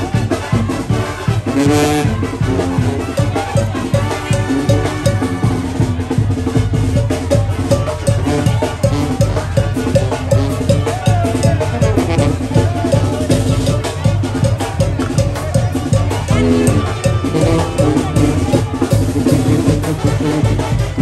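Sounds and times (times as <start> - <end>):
drums keeping a steady beat: 0.0 - 21.0
sustained brass notes: 0.0 - 21.0.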